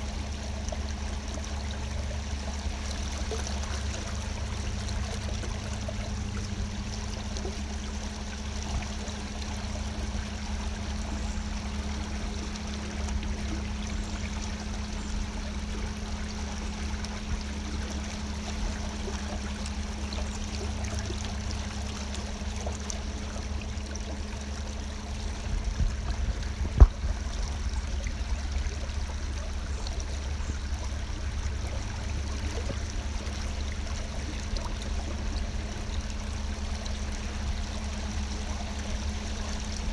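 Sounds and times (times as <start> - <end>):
boat engine hum: 0.0 - 39.9
water swishing and trickling: 0.0 - 39.9.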